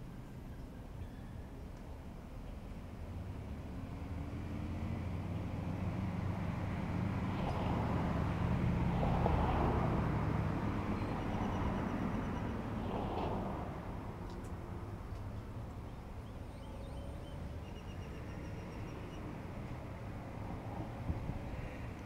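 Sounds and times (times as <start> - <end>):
vehicle passing by: 3.1 - 22.0.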